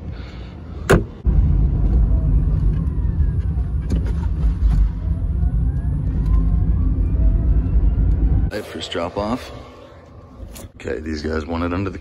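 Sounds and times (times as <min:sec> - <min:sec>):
road and tyre noise: 0:00.0 - 0:12.0.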